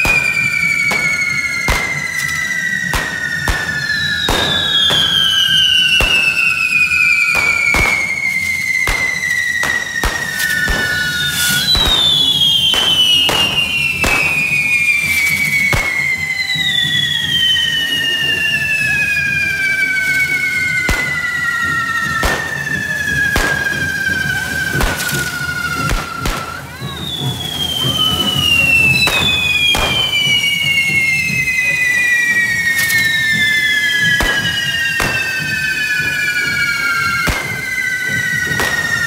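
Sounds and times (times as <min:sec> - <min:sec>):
firecracker bangs: 0:00.0 - 0:39.0
firework fountains whistling shrilly: 0:00.0 - 0:39.0.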